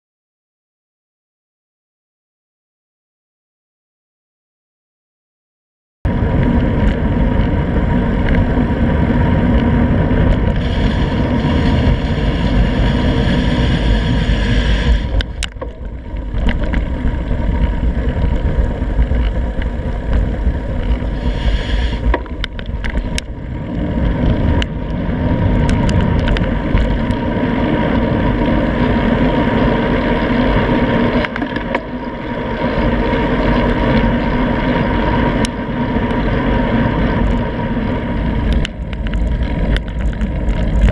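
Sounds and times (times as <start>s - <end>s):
tyre road rumble: 6.1s - 40.9s
wind on microphone: 6.1s - 40.9s.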